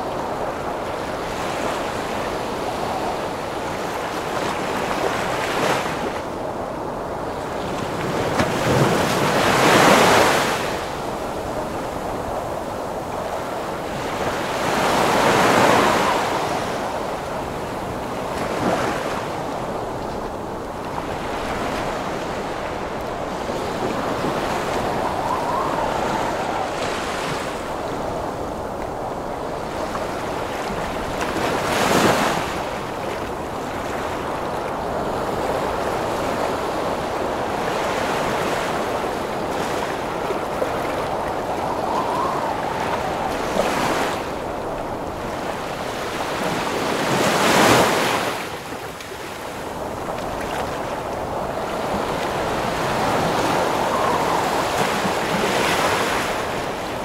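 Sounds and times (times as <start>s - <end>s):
ocean waves breaking: 0.0s - 57.0s
storm wind: 0.0s - 57.0s.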